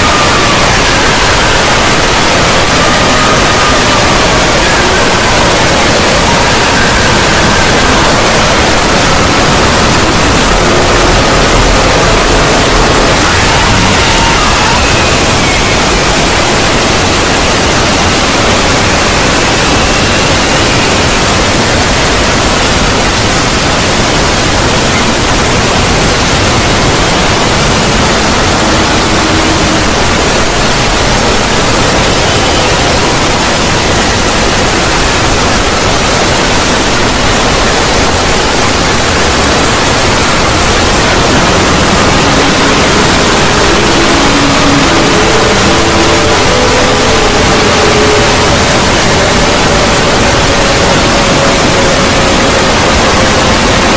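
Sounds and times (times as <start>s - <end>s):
faint synthetic tones: 0.0s - 53.9s
loud static noise: 0.0s - 53.9s.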